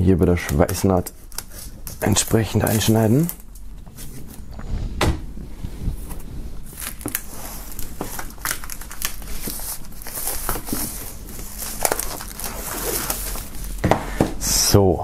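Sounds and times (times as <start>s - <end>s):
plastic film crinkling: 0.3s - 4.7s, 5.6s - 14.2s.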